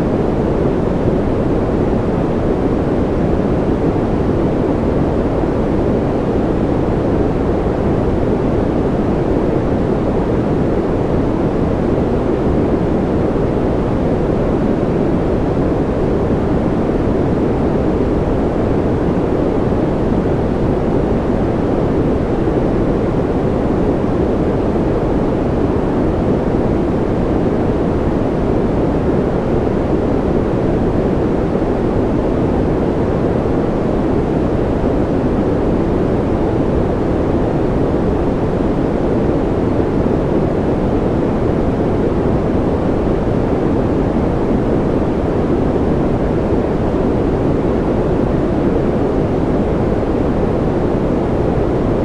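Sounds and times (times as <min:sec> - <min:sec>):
deep rumbling white noise: 0:00.0 - 0:52.0.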